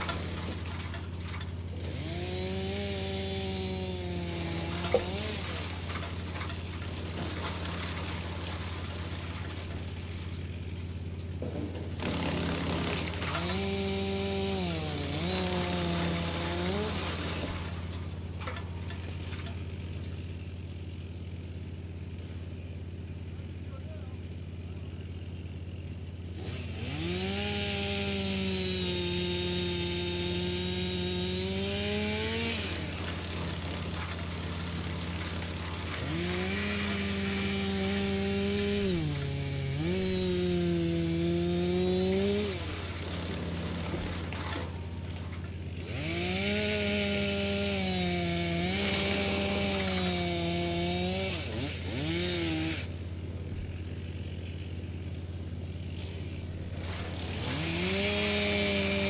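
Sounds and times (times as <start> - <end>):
wood chipper droning: 0.0 - 59.0
wood chipping noise: 0.0 - 59.0.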